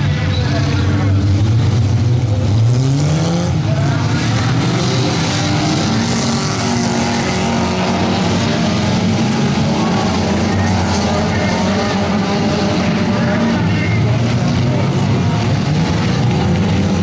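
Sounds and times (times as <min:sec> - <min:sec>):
stock car engines revving: 0:00.0 - 0:17.0.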